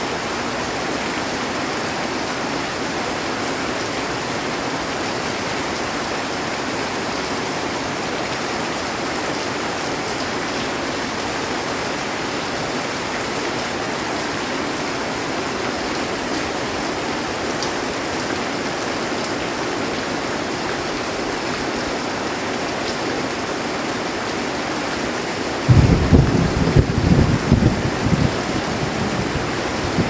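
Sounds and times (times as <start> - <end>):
heavy rain on a metal roof: 0.0 - 30.0.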